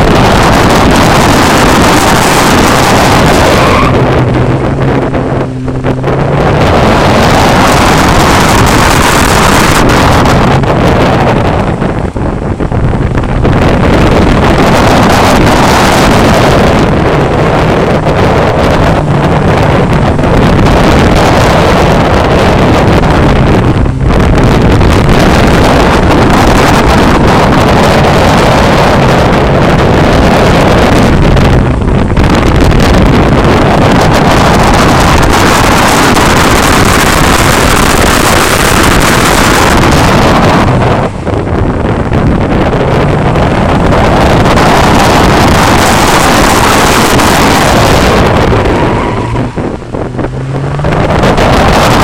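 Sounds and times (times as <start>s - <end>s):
rally car engine driven hard: 0.0s - 52.0s
wind buffeting on microphone: 0.0s - 52.0s.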